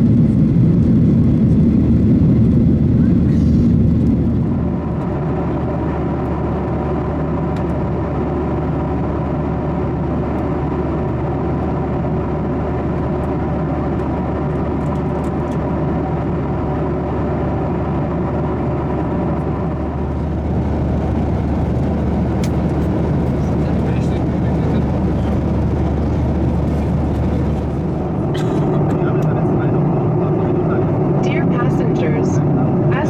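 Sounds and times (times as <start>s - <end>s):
airflow over fuselage: 0.0s - 33.0s
jet engines rumbling: 0.0s - 33.0s.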